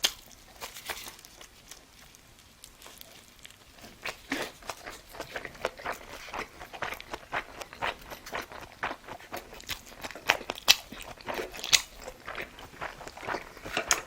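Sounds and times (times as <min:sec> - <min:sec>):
person chewing and smacking: 0:00.0 - 0:14.0.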